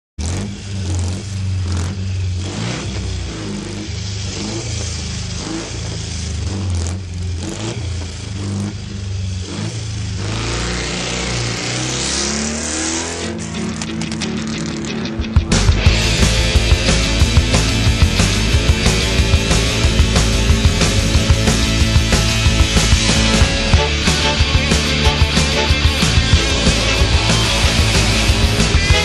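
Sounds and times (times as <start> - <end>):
vehicle engine revving: 0.2 - 29.0.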